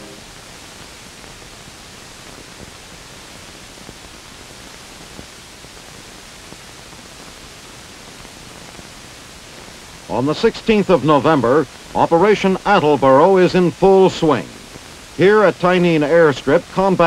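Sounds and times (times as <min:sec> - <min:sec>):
old film soundtrack hiss: 0:00.0 - 0:17.0.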